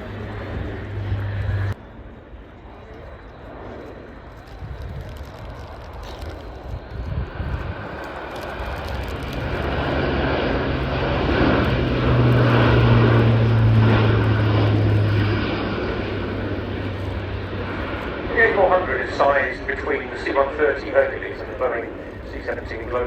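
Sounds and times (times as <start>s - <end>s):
turboprop aircraft droning: 0.0s - 23.0s.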